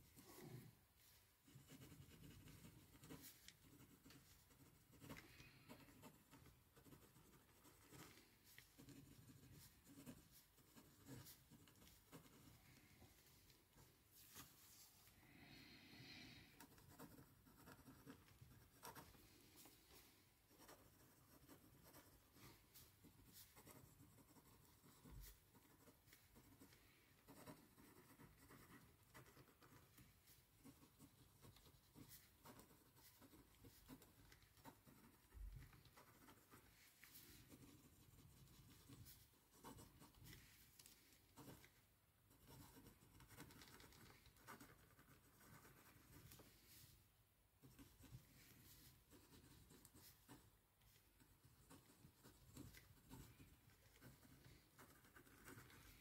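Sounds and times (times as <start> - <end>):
pen scratching on paper: 1.4 - 12.9, 16.6 - 19.9, 20.5 - 46.8, 47.6 - 56.0.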